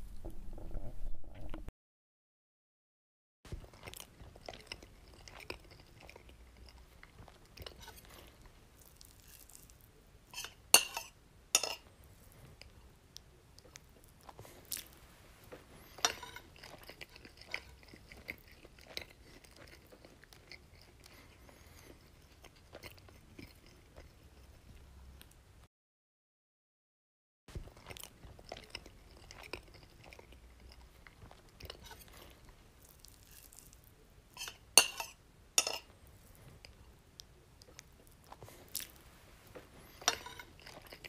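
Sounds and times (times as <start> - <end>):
chewing crunchy food: 3.5 - 10.6, 11.7 - 25.4, 27.5 - 41.0.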